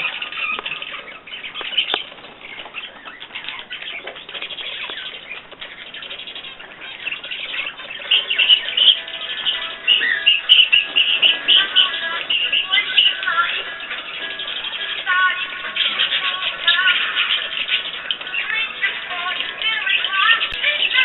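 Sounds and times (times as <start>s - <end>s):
small birds chirping and trilling: 0.0s - 21.0s
wings fluttering: 0.0s - 21.0s.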